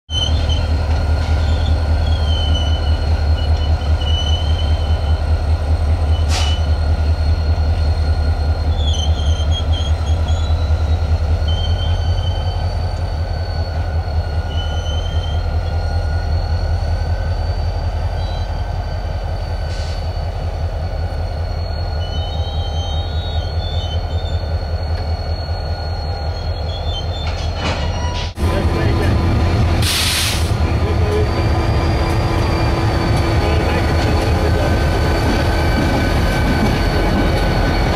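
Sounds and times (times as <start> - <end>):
high wheel squeals: 0.1 - 37.9
train rumbling on rails: 0.1 - 37.9.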